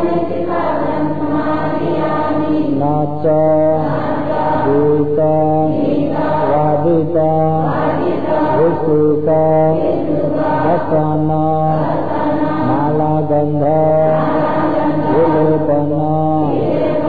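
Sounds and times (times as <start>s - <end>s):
voices chanting in unison: 0.0s - 17.0s.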